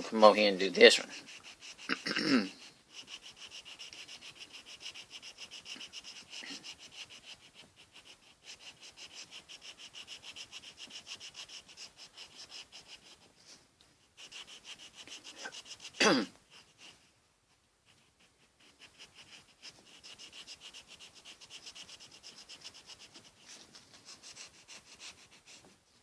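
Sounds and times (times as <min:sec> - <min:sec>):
colored pencil scratching on paper: 0:00.0 - 0:25.8.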